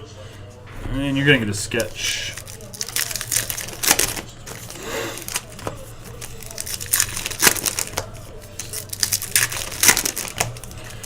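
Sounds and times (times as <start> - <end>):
cards being handled: 1.2 - 11.0
foil wrapper crinkling: 1.6 - 11.0.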